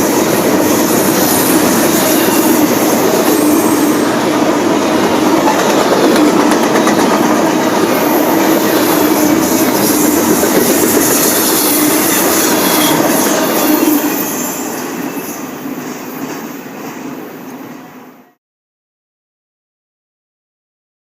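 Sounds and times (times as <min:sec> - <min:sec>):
freight train rumbling past: 0:00.0 - 0:18.4.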